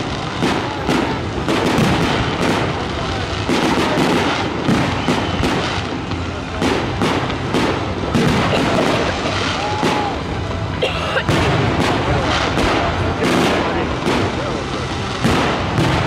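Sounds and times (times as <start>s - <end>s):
fireworks bursting: 0.0s - 16.0s
fireworks crackling: 0.0s - 16.0s.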